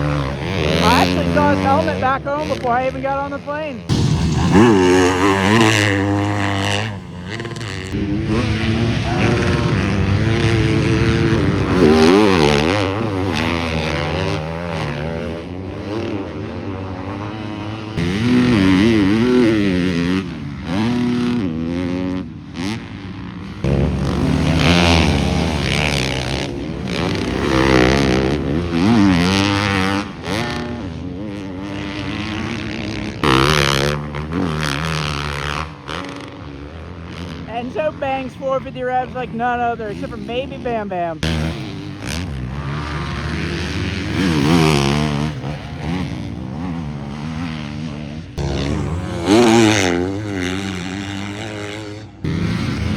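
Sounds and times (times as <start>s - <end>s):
motocross bikes revving past: 0.0s - 52.9s.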